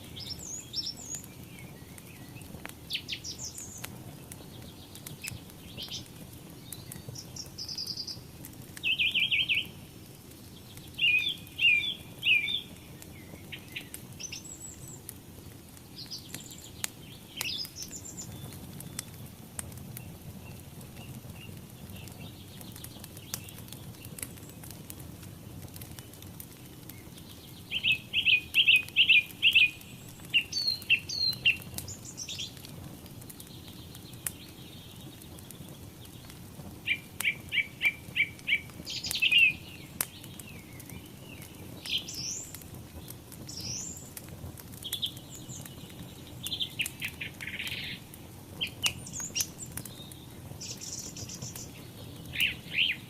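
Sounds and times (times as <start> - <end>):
songbirds singing: 0.0 - 53.0
wood fire crackling: 0.0 - 53.0.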